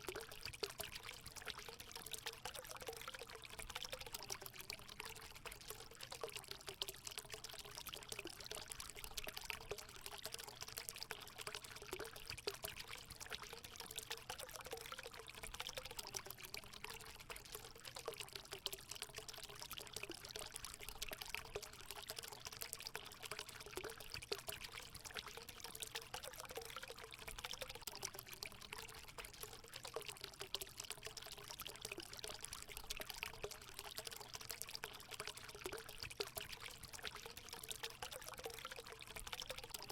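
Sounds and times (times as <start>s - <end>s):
water trickling into pool: 0.0s - 39.9s.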